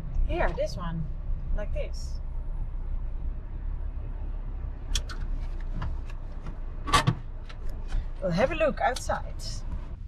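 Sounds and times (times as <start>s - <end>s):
van engine rumble from cab: 0.0s - 10.0s.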